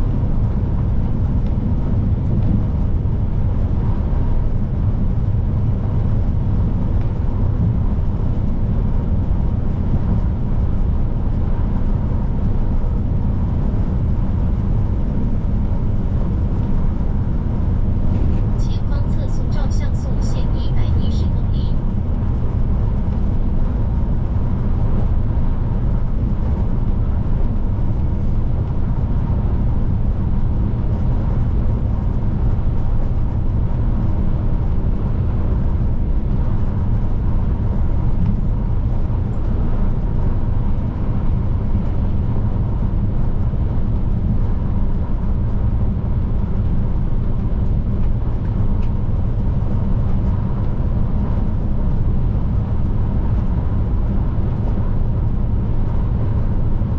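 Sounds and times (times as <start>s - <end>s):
faint steady whine: 0.0s - 56.9s
truck diesel engine rumble: 0.0s - 56.9s.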